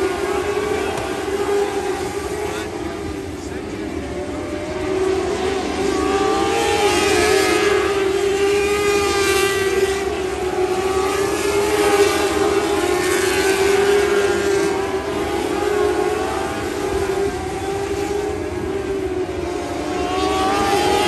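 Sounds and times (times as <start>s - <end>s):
racing car engine high revs: 0.0s - 21.0s.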